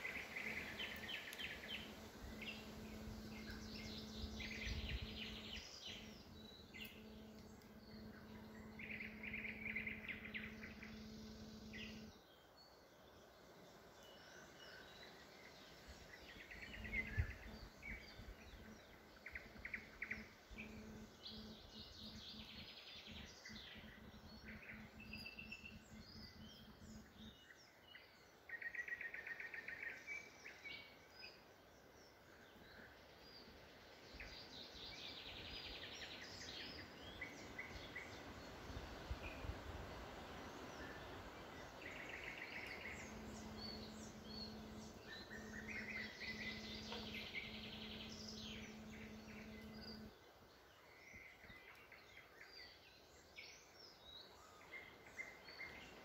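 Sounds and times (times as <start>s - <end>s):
birds trilling and chirping: 0.0s - 56.0s
faint low hum: 0.0s - 56.0s.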